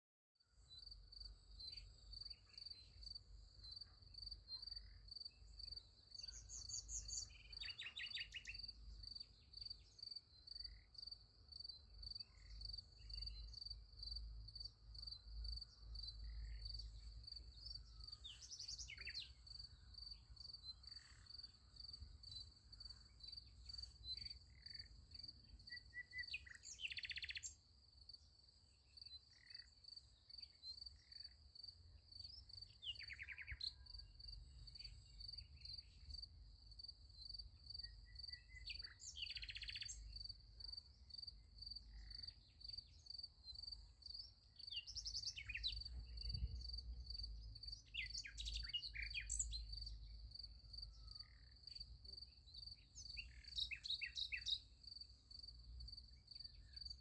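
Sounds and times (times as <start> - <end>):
crickets chirping: 0.7 - 57.0.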